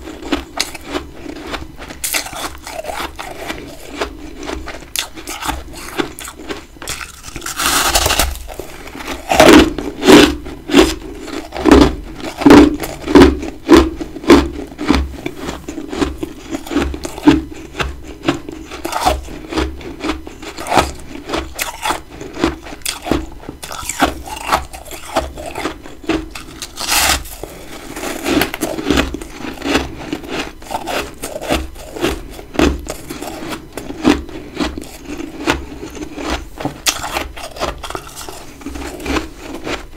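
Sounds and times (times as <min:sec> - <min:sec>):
person crunching frost: 0:00.0 - 0:39.9.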